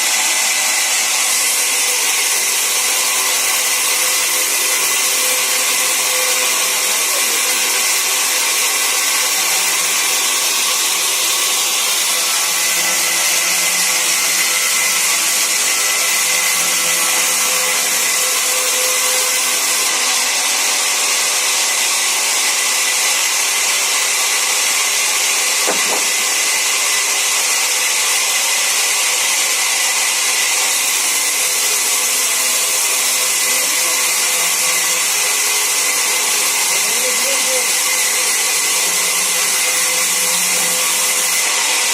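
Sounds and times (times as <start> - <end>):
sawmill saw cutting wood: 0.0 - 41.9.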